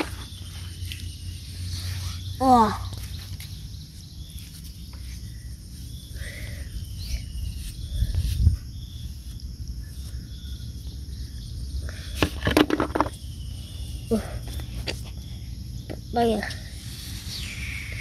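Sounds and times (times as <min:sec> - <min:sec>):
faint chirps: 0:00.0 - 0:12.4, 0:13.0 - 0:18.0.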